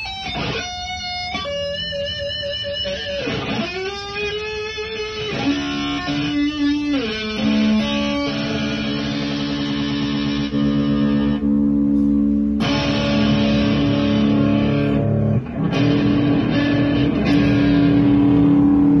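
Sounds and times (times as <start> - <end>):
electric guitar chords ringing: 0.0 - 19.0.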